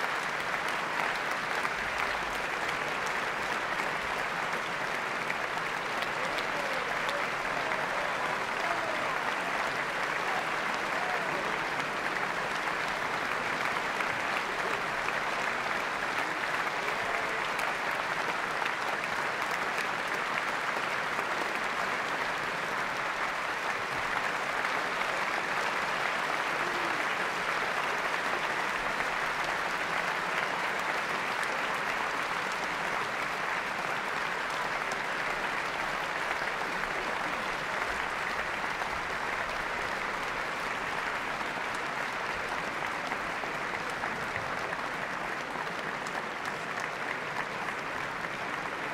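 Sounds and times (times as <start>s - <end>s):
audience applauding: 0.0s - 48.9s.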